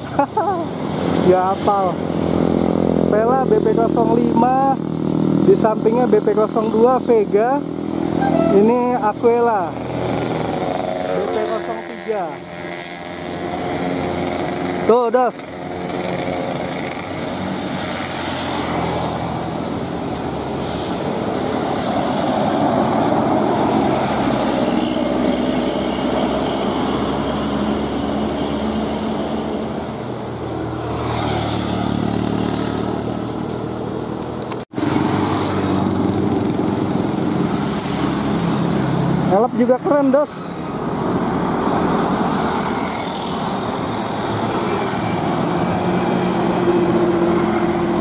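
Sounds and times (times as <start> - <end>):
motorcycles going past: 1.0 - 19.6, 20.8 - 48.0.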